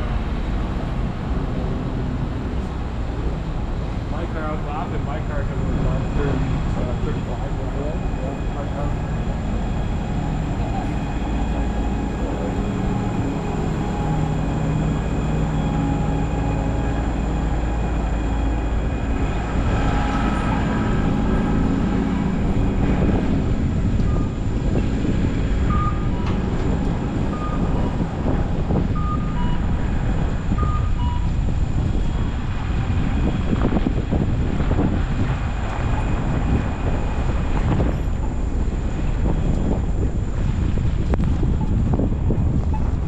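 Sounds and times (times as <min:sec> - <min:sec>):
large vehicle engine rumble: 0:00.0 - 0:43.0
wind noise: 0:00.0 - 0:43.0.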